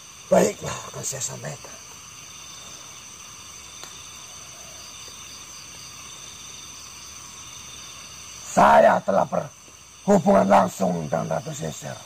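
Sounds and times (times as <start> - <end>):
low hiss: 0.0 - 12.0
night insects chorus: 0.0 - 12.0.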